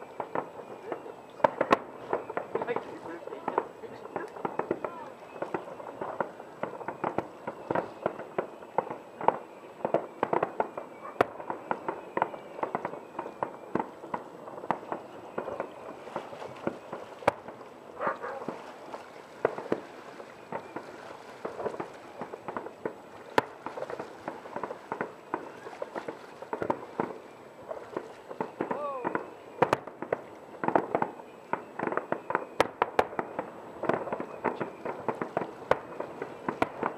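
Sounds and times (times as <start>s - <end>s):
fireworks bangs and crackling: 0.0s - 36.9s
sharp firework reports: 0.0s - 36.9s.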